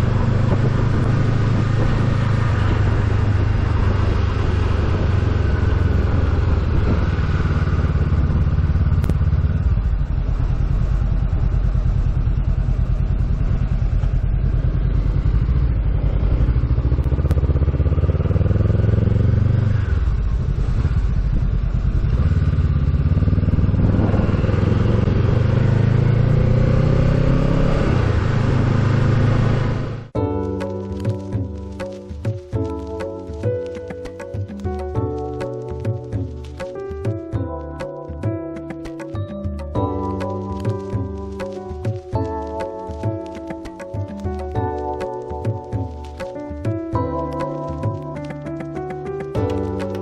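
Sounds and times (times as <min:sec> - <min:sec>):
road noise: 0:00.0 - 0:50.0
vehicle engine accelerating: 0:00.0 - 0:50.0.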